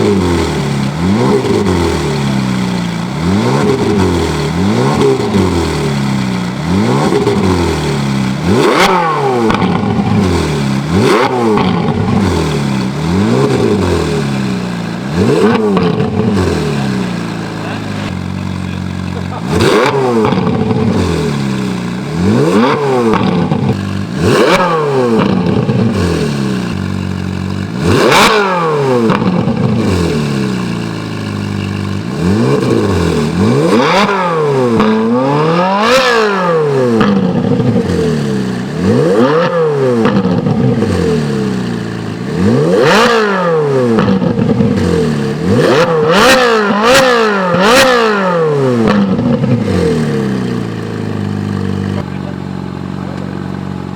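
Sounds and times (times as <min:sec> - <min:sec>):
car engine revving: 0:00.0 - 0:53.9
exhaust cracks: 0:00.0 - 0:53.9.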